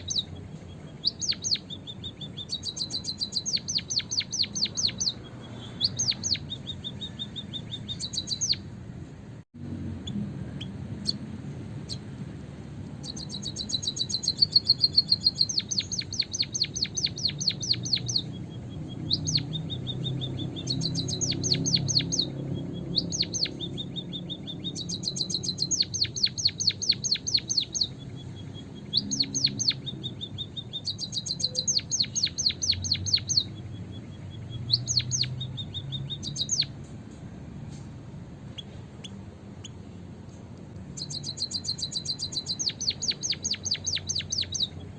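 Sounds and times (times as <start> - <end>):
bird rapid high chirps: 0.0 - 8.8, 10.0 - 12.2, 12.9 - 40.1, 40.8 - 44.9.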